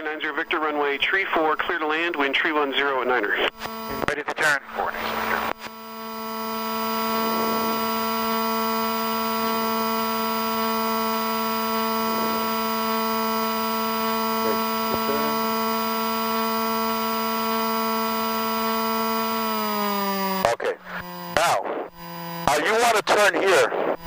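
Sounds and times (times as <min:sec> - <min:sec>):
propeller plane engine droning: 0:01.8 - 0:21.4.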